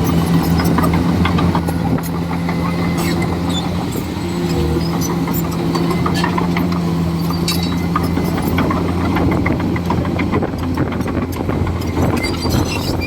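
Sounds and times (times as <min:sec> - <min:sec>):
bulldozer diesel engine running: 0:00.0 - 0:13.0
clanks and clicks: 0:00.0 - 0:13.0.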